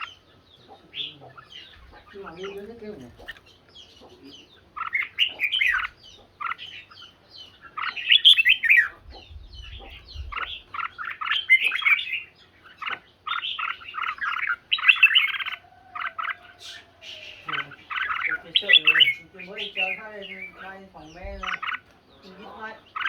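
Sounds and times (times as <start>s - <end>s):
bird singing chattering notes: 0.0s - 23.0s.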